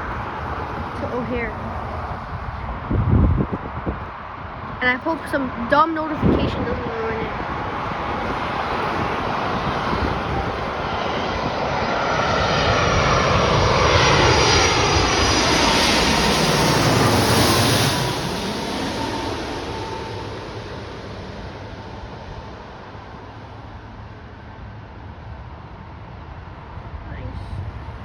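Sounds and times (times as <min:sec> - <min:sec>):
jet airliner passing by: 0:00.0 - 0:28.0.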